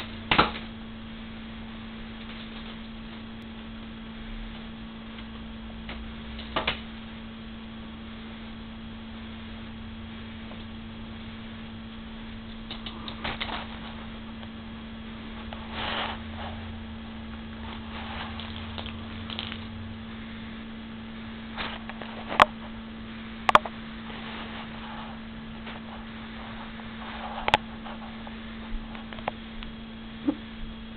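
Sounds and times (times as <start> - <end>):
low electrical hum: 0.0 - 30.9.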